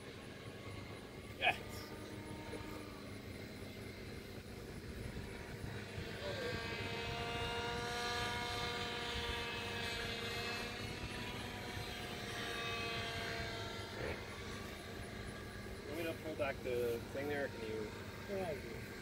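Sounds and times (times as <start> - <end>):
electric propeller whining drone: 0.0 - 19.0.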